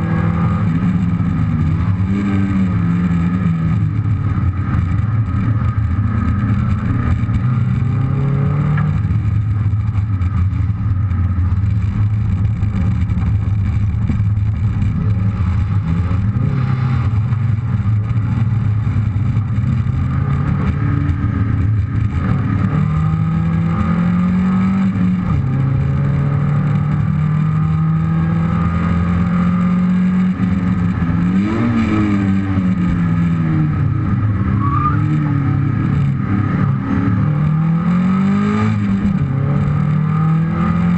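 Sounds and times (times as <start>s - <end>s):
rally car engine revving: 0.0s - 40.9s
tyre and road noise: 0.0s - 40.9s.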